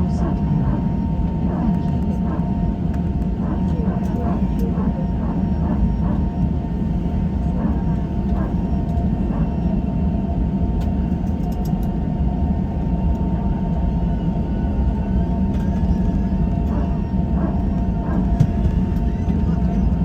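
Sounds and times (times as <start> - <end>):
airliner cabin low rumble: 0.0 - 20.0.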